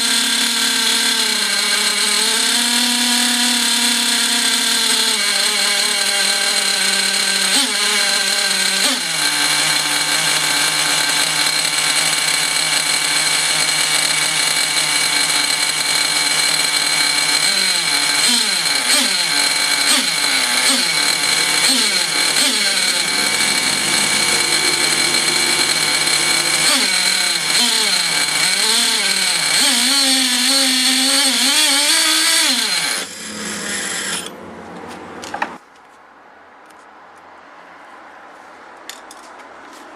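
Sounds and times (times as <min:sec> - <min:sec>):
model engine running at high speed: 0:00.0 - 0:34.3.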